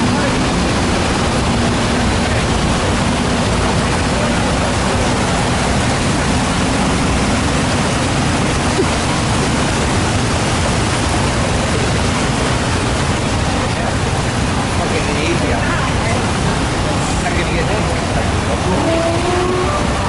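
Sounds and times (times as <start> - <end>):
water rushing: 0.0 - 20.0.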